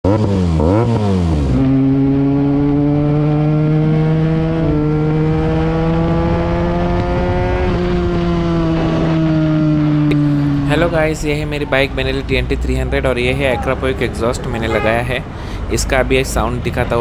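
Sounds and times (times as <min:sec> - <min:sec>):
motorcycle engine revving steadily: 0:00.0 - 0:17.0.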